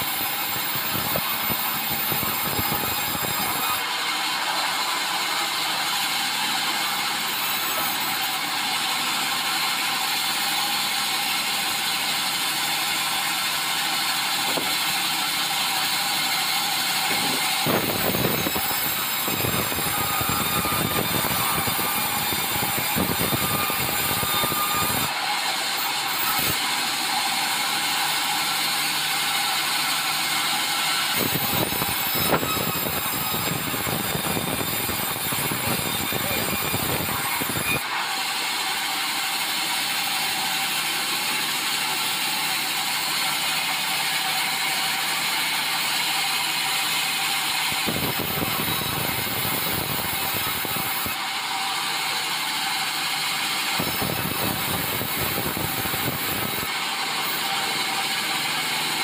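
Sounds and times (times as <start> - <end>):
band sawmill sawing a log: 0.0 - 59.0.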